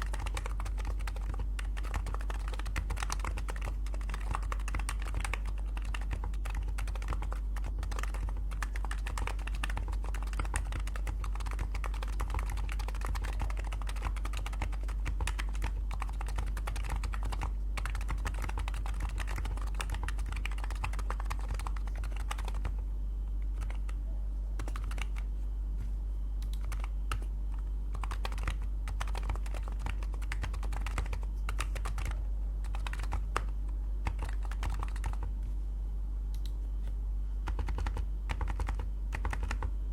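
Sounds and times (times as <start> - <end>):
keyboard typing: 0.0 - 22.8, 23.4 - 24.0, 24.6 - 25.3, 26.4 - 35.4, 37.4 - 39.7
steady low hum: 0.0 - 39.9.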